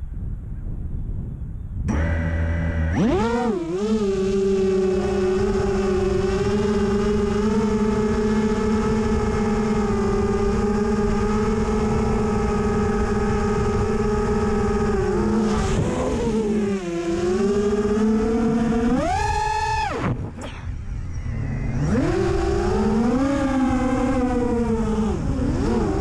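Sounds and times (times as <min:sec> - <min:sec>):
drone motors whining: 0:01.9 - 0:26.0.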